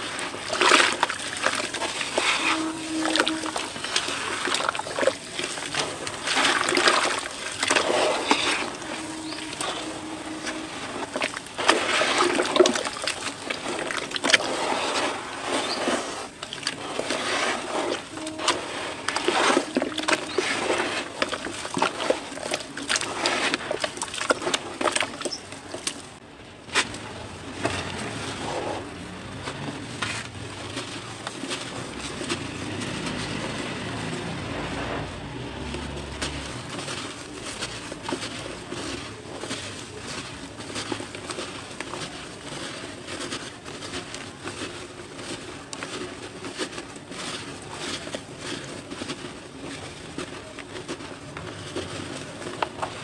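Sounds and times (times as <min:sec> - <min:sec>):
hands sloshing wet cement: 0:00.0 - 0:53.0.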